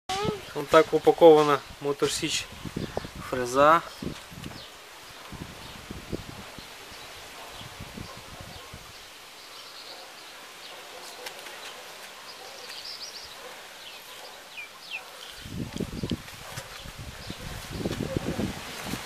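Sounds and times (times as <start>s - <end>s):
outdoor background noise: 0.1s - 19.0s.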